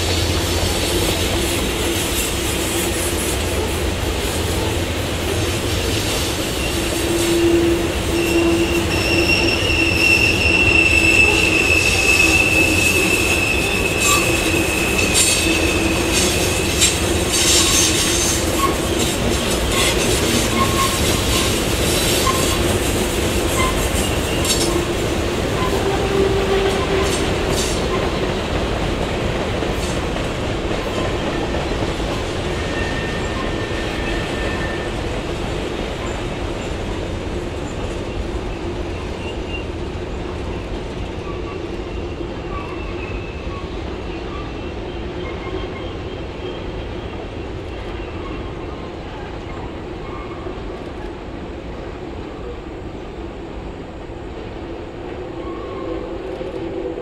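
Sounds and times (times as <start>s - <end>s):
wheel flanges squealing on rail: 0.0s - 28.5s, 29.6s - 36.8s, 37.6s - 51.1s, 55.1s - 57.0s.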